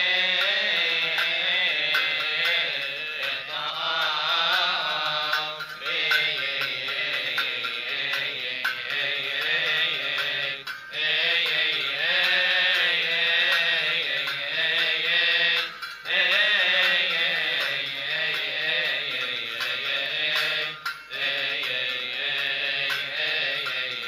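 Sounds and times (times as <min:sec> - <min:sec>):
man chanting a hymn: 0:00.0 - 0:24.0.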